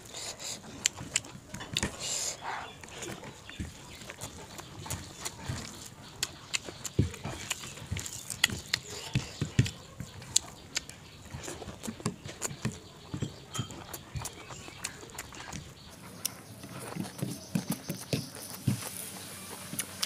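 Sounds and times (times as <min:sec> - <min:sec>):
person chewing and lip smacking: 0:00.0 - 0:19.0.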